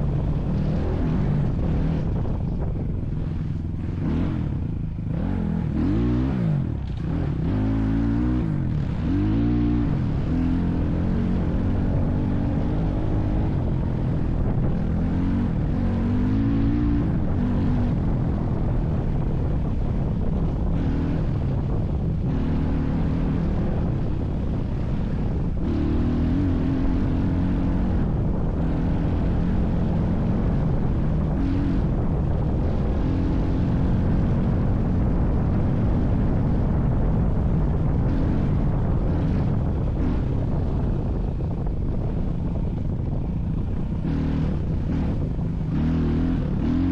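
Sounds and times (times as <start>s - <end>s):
vehicle engine running under load: 0.0s - 46.9s.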